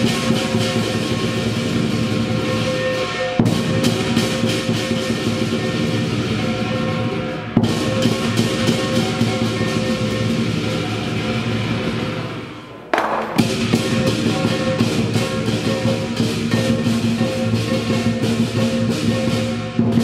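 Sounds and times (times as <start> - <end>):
music with drums and held notes: 0.0 - 20.0.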